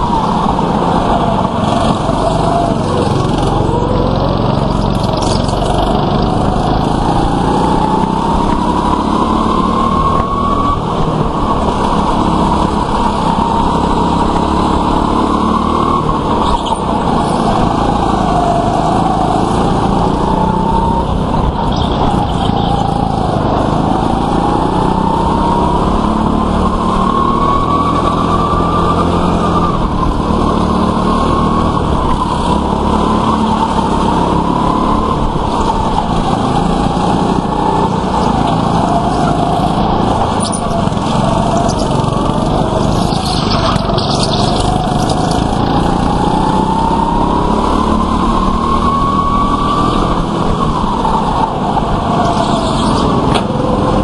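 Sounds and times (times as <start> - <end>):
go-kart motor whine: 0.0 - 54.0.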